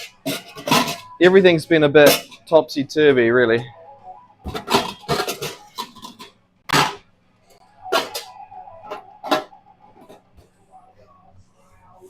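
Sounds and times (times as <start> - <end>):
utensils and dishes clanking: 0.0 - 3.8, 4.4 - 10.6.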